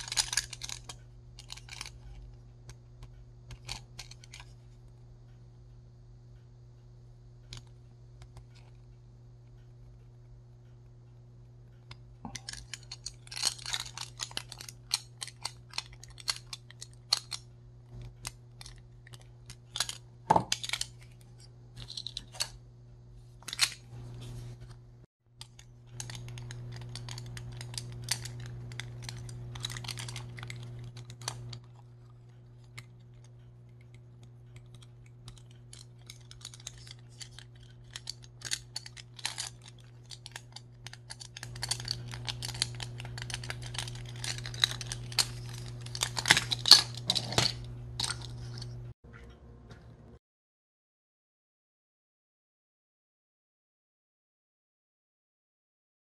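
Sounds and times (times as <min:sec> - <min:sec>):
steady low hum: 0:00.0 - 0:50.2.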